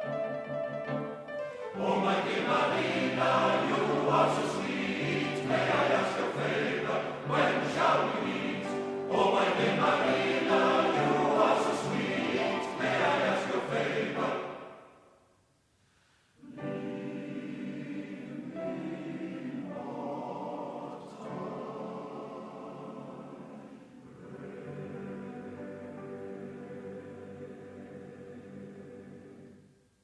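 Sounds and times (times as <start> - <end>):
group singing in harmony: 1.6 - 15.0, 16.4 - 29.8.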